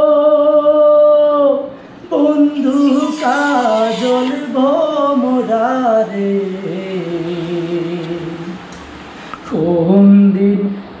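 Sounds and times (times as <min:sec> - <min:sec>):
man singing unaccompanied: 0:00.0 - 0:08.7, 0:09.4 - 0:10.9.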